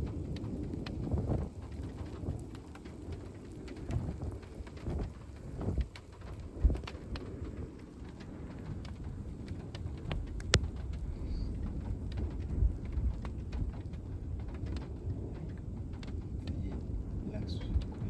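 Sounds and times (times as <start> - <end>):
rain on car roof and windows: 0.0 - 18.0
steady low rumble: 0.0 - 18.0.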